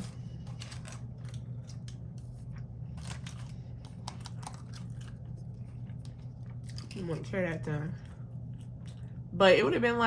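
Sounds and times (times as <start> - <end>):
person chewing food: 0.0 - 7.0, 8.0 - 9.3
steady low hum: 0.0 - 10.0.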